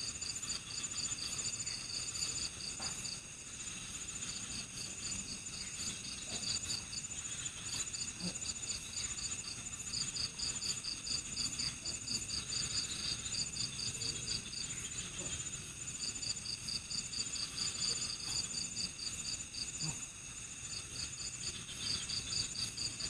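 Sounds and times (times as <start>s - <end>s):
cricket chirping: 0.0s - 23.0s
insects trilling: 0.0s - 23.0s.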